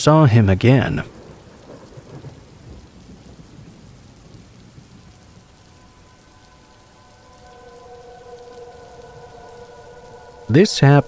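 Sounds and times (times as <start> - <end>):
steady rain falling: 0.0 - 11.0
low rumble of thunder: 0.7 - 11.0
faint steady tones: 1.1 - 11.0.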